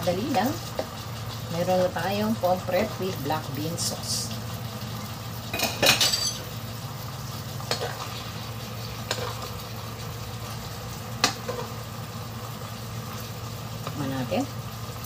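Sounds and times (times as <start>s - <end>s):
sauce simmering in a wok: 0.0s - 15.0s.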